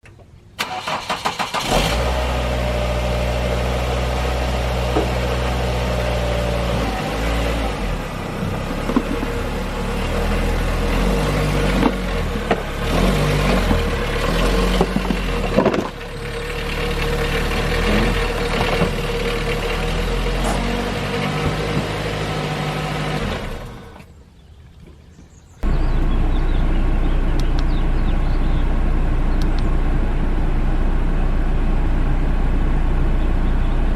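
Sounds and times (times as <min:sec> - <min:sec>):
car engine cranking and idling: 0:00.0 - 0:24.1, 0:25.6 - 0:33.9.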